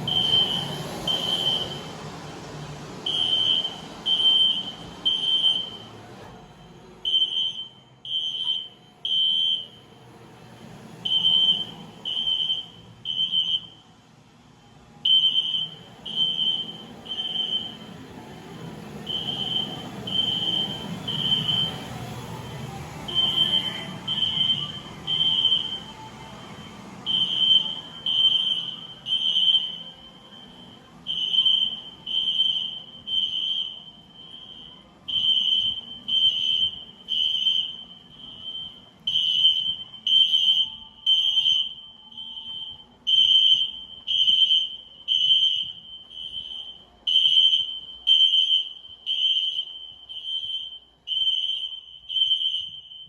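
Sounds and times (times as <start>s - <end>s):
fire alarm horn beeping: 0.0s - 10.0s, 11.0s - 13.9s, 15.0s - 53.0s.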